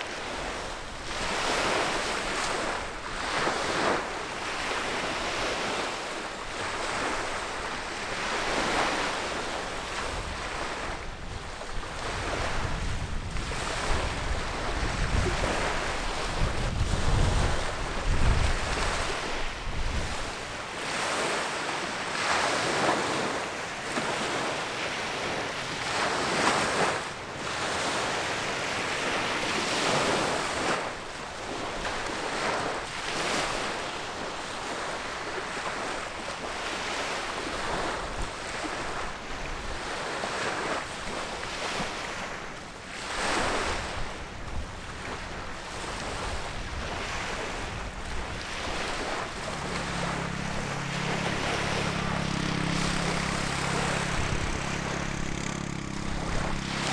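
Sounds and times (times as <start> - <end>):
wind gusting across microphone: 0.0 - 21.4, 25.3 - 56.9
water washing against shore: 0.0 - 56.9.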